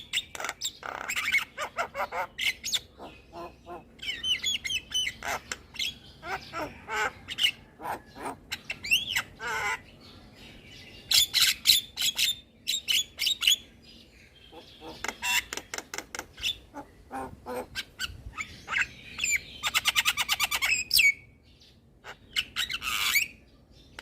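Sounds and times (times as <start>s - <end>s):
myna bird singing: 0.0s - 24.0s.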